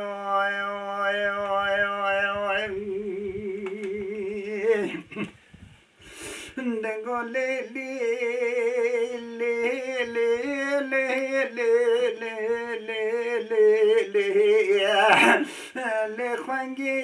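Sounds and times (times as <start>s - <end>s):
man singing unaccompanied: 0.0s - 5.3s, 6.4s - 17.0s.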